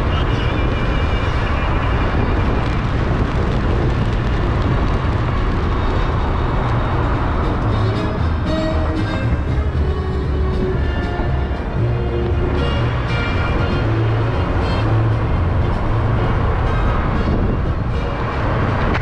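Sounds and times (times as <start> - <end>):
road and tyre noise: 0.0 - 19.0
wind buffeting microphone: 0.0 - 19.0.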